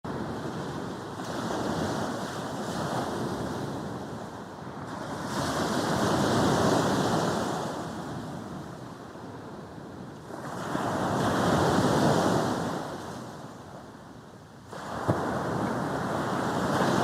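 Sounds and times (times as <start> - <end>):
sea waves breaking on beach: 0.1 - 9.6, 10.3 - 13.6, 14.6 - 17.0.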